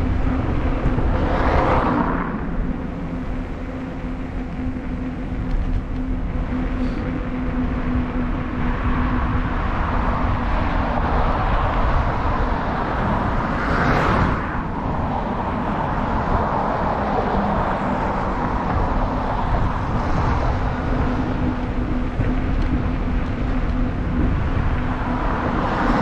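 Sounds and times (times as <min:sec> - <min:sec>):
steady low hum: 0:00.0 - 0:26.0
vehicle passing: 0:00.0 - 0:26.0
wind buffeting microphone: 0:00.0 - 0:26.0.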